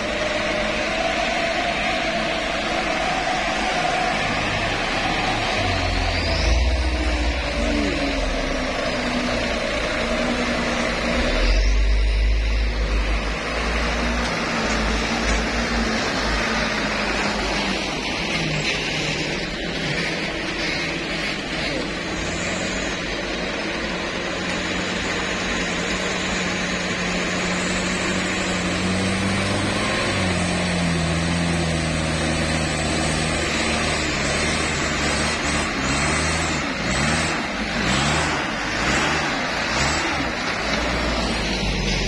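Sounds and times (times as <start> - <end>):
truck engine climbing: 0.0 - 42.0.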